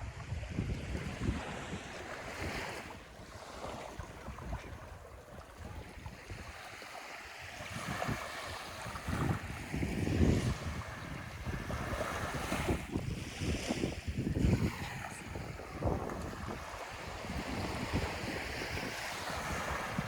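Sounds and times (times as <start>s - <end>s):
waves washing onto beach: 0.0s - 20.0s
wind buffeting microphone: 0.0s - 20.0s.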